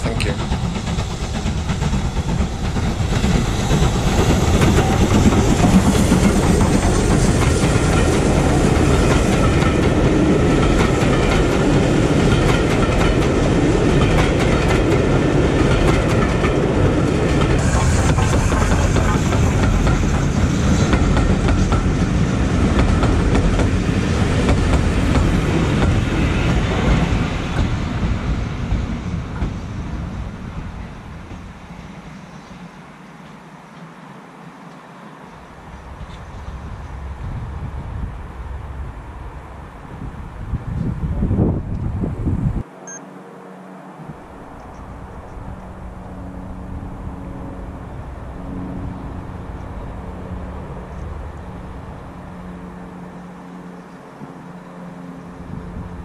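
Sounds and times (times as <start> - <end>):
steam train passing: 0.0 - 56.0.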